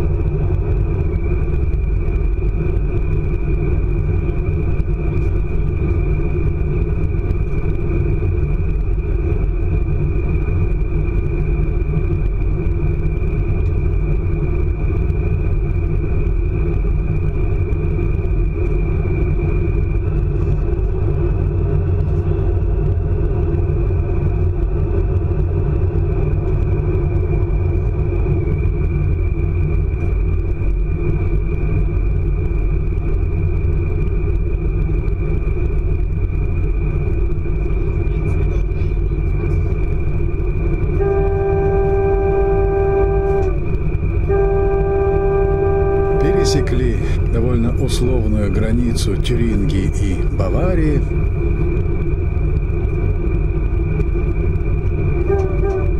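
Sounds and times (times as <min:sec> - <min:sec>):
high whine of train: 0:00.0 - 0:55.9
high-speed train rumble: 0:00.0 - 0:55.9.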